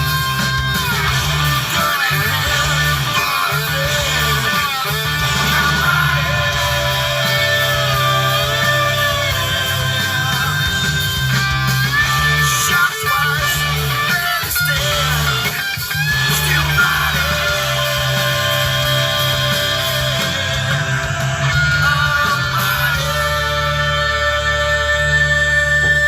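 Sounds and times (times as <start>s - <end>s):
melodic music with bass line: 0.0s - 26.0s.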